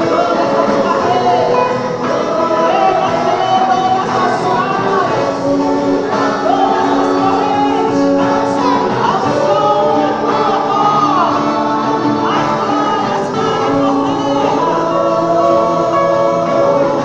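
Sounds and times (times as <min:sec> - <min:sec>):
choir singing gospel music: 0:00.0 - 0:17.0.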